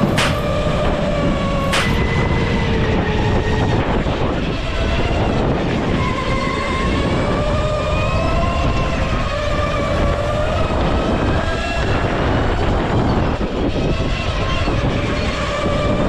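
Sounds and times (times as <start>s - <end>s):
go-kart motor running: 0.0s - 16.0s
wind and track rumble: 0.0s - 16.0s.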